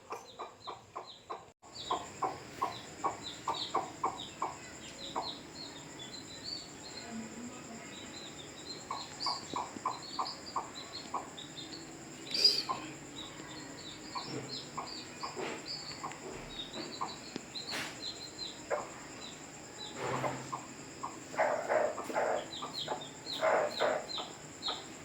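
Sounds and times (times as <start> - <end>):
hen clucking: 0.0 - 6.8, 8.2 - 25.0
chicks peeping: 0.0 - 25.0.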